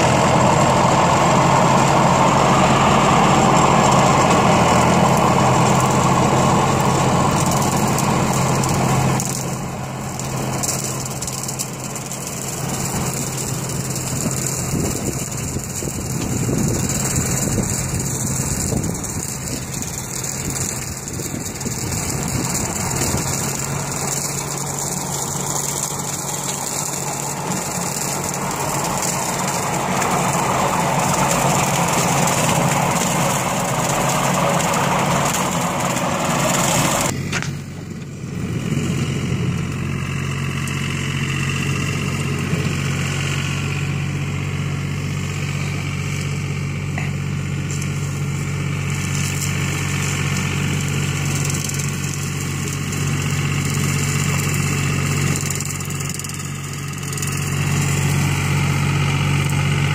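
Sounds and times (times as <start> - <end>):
rotary cutter mowing grass: 0.0 - 59.9
tractor diesel engine running: 0.0 - 59.9.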